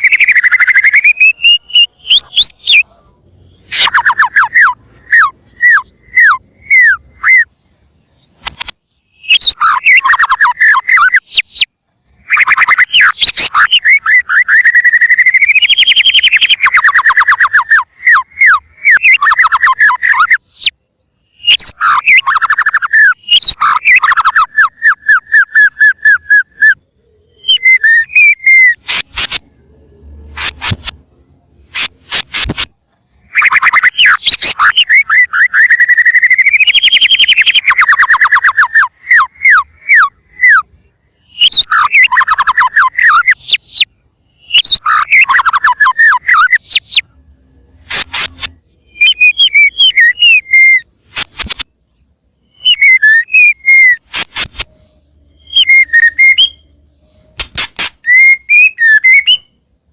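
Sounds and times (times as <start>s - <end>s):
bird singing whistled notes: 0.0s - 59.9s
harsh bird calls: 0.0s - 59.9s.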